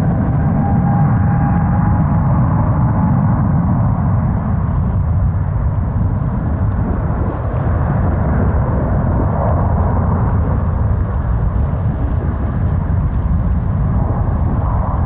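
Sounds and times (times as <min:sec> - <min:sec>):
jet airliner taking off: 0:00.0 - 0:15.0.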